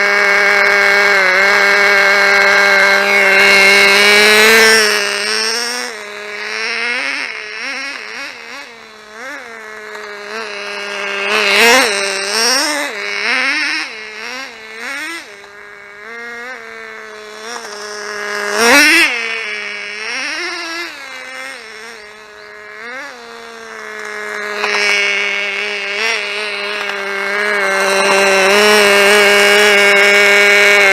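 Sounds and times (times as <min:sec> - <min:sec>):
model car engine revving: 0:00.0 - 0:30.9.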